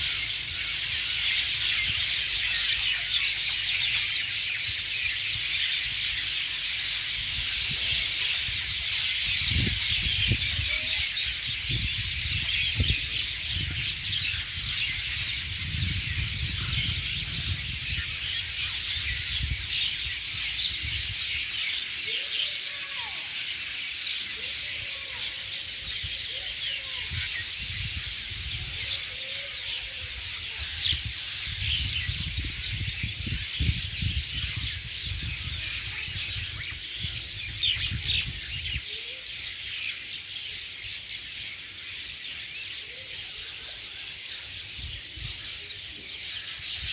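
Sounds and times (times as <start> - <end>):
flock of birds chirping: 0.0 - 46.9.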